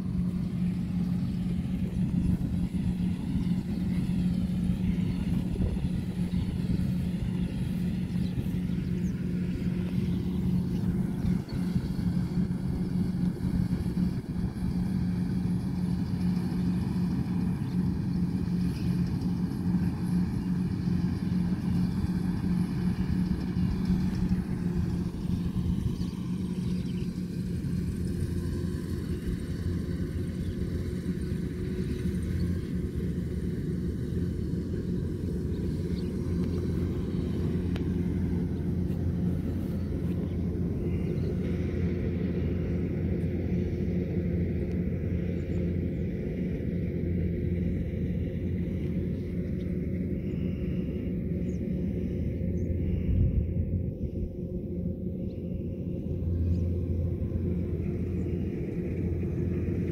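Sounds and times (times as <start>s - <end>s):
combine harvester engine droning: 0.0s - 59.9s.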